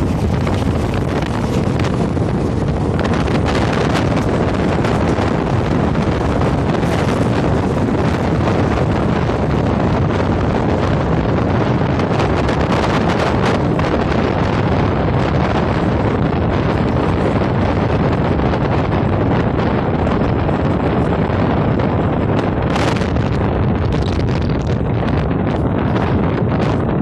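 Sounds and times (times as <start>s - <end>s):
train rumbling on track: 0.0s - 27.0s
wind buffeting microphone: 0.0s - 27.0s.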